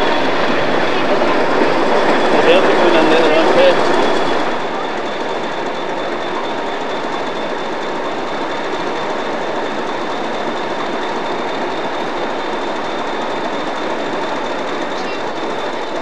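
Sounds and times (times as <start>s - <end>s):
diesel locomotives idling: 0.0s - 16.0s
electric locomotive drawing in: 0.0s - 16.0s.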